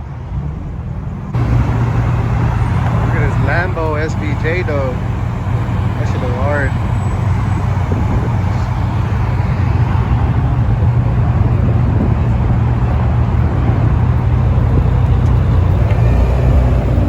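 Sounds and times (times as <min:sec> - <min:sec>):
car engine droning: 0:00.0 - 0:17.0
road and tyre noise: 0:00.0 - 0:17.0.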